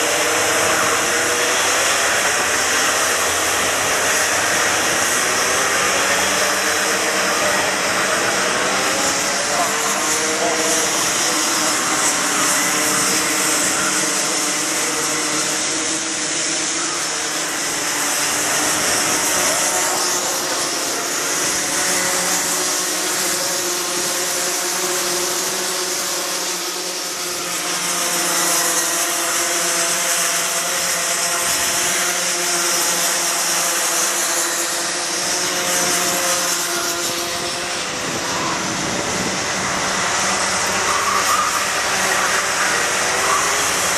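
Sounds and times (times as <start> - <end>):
kart engines buzzing at high revs: 0.0 - 43.9.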